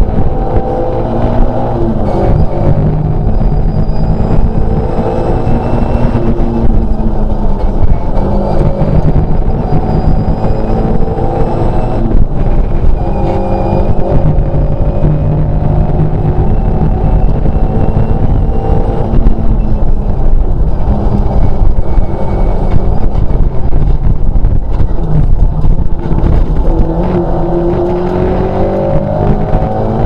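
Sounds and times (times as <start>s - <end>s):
rally car engine at full throttle: 0.0s - 30.0s
road and tyre noise: 0.0s - 30.0s.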